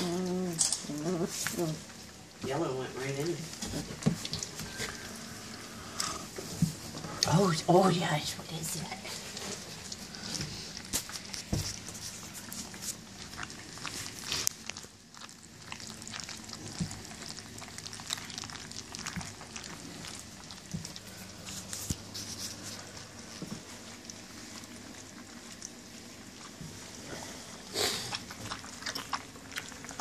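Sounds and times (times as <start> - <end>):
puppies lapping wet food: 0.0 - 30.0.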